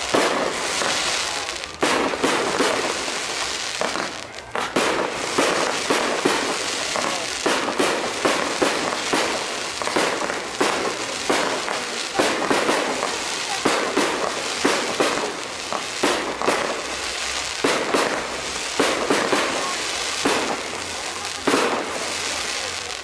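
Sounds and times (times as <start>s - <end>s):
fireworks bursting with bangs: 0.0s - 23.0s
fireworks crackling: 0.0s - 23.0s.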